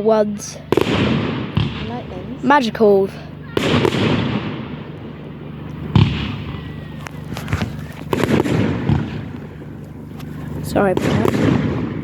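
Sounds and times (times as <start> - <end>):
fireworks crackling pops: 0.6 - 2.8, 3.5 - 12.0
firework bang: 0.7 - 2.6, 3.5 - 12.0.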